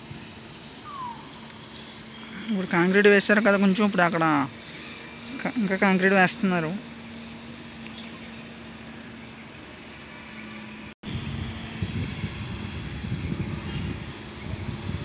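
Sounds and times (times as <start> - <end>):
engine hum: 0.0 - 15.0
outdoor noise: 0.0 - 15.0.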